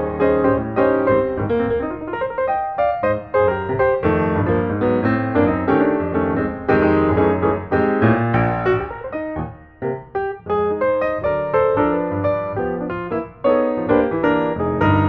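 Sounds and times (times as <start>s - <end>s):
busy piano piece: 0.0s - 15.0s.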